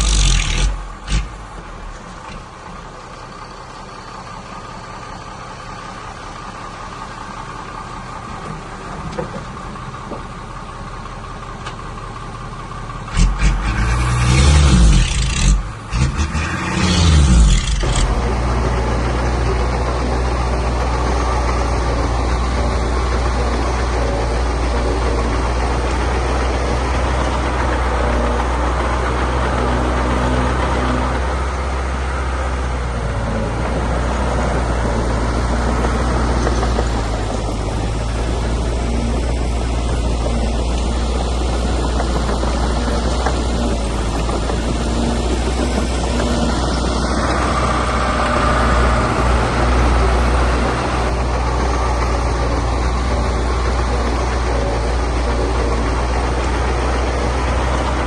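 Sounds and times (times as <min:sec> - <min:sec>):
heavy diesel engine revving: 0:00.0 - 0:09.9, 0:12.0 - 0:58.0.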